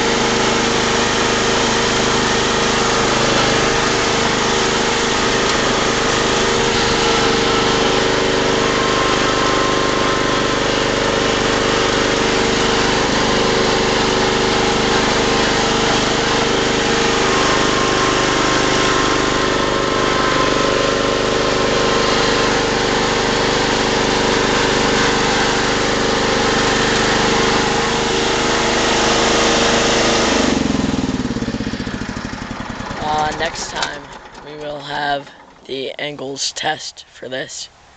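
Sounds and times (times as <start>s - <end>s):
lawn tractor engine running: 0.0s - 37.9s.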